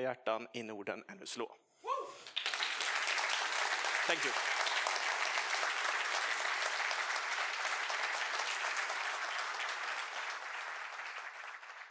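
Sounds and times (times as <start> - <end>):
audience applauding: 2.2 - 11.9.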